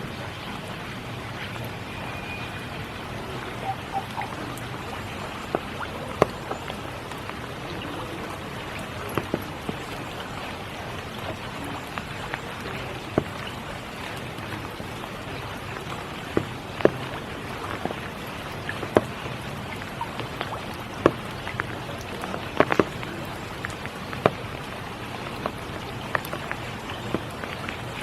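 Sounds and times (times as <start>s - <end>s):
rain hissing: 0.0s - 28.0s
raindrops tapping: 0.0s - 28.0s.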